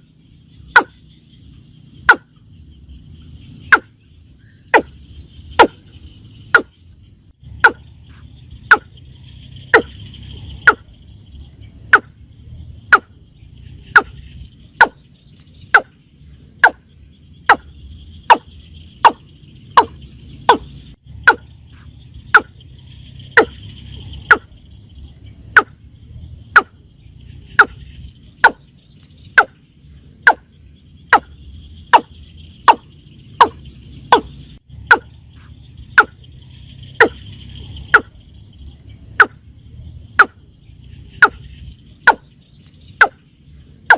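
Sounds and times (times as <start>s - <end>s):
watercock calling: 0.6s - 1.2s, 2.0s - 2.5s, 3.4s - 6.8s, 7.4s - 11.1s, 11.8s - 12.2s, 12.8s - 24.6s, 25.4s - 25.8s, 26.5s - 29.6s, 30.2s - 38.5s, 39.1s - 39.4s, 40.2s - 43.3s.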